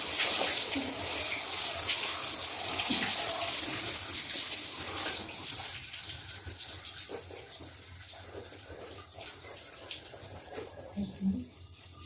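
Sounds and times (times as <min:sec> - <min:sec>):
shower water running: 0:00.0 - 0:12.0.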